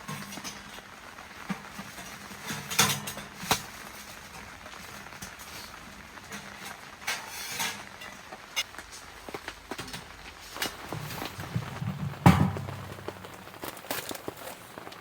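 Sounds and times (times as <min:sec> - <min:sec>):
faint background hiss: 0:00.0 - 0:15.0
soft knocks and rustles: 0:00.0 - 0:15.0.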